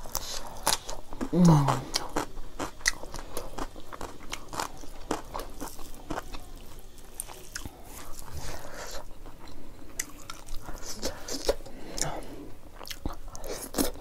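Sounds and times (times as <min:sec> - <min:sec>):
chewing crunches: 0:00.0 - 0:12.2, 0:12.8 - 0:14.0.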